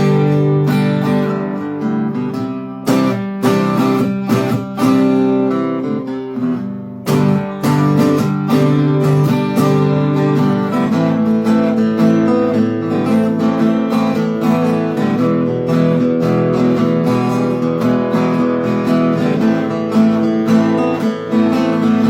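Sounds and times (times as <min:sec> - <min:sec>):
acoustic guitars strumming: 0:00.0 - 0:22.0.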